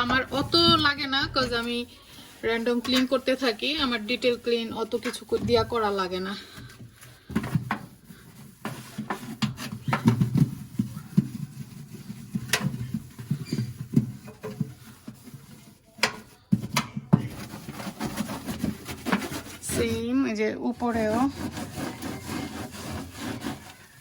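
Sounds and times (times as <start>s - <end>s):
sponge scrubbing: 0.0s - 24.0s.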